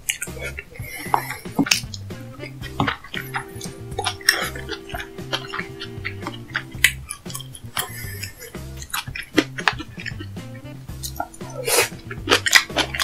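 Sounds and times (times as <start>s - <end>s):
music with repeating bass line: 0.3s - 13.0s.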